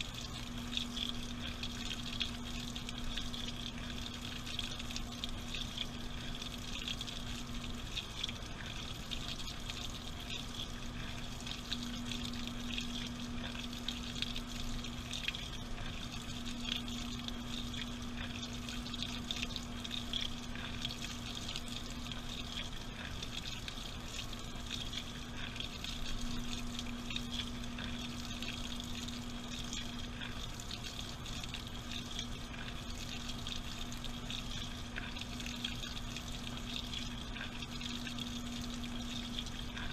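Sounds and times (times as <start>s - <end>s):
water splashing in washing machine: 0.0s - 39.9s.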